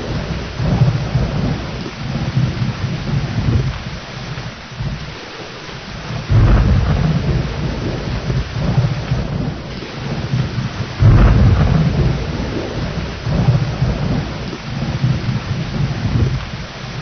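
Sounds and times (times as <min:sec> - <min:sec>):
steady rain: 0:00.0 - 0:17.0
thunder rolling: 0:00.0 - 0:17.0.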